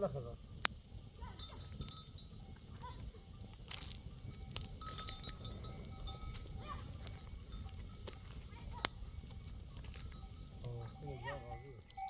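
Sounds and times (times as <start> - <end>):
livestock bells tinkling: 0.0 - 12.0.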